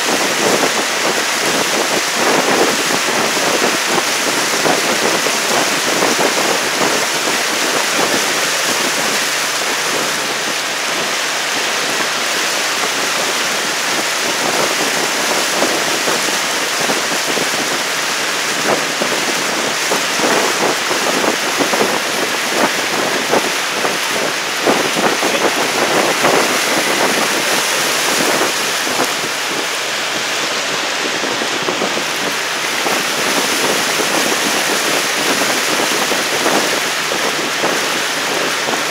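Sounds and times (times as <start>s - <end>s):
rush of water from boats: 0.0s - 38.9s.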